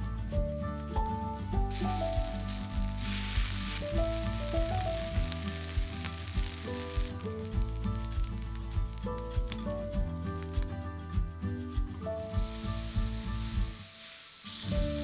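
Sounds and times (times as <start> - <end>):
light background music: 0.0 - 15.0
food sizzling on a griddle: 1.5 - 10.8, 12.0 - 15.0.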